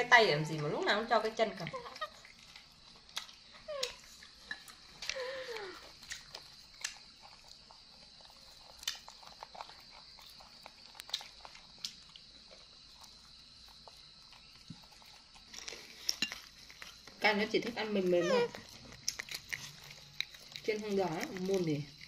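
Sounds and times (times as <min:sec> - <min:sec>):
crunching crispy fried cake: 0:00.8 - 0:22.0.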